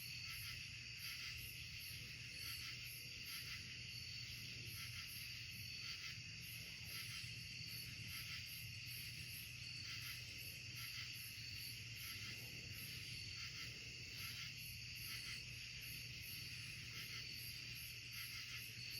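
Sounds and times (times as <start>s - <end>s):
high pulsing insect chirp: 0.0s - 18.9s
insects buzzing drone: 0.0s - 18.9s.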